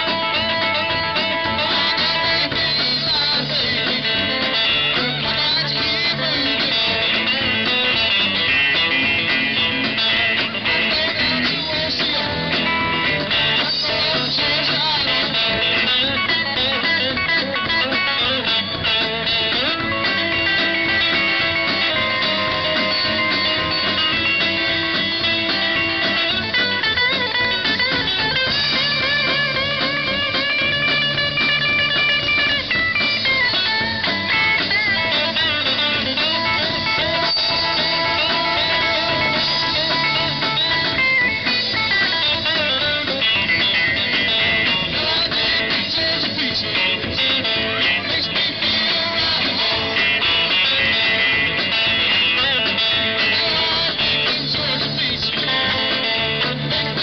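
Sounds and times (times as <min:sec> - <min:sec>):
drum kit: 0:00.0 - 0:57.0
electric guitar lead: 0:00.0 - 0:57.0.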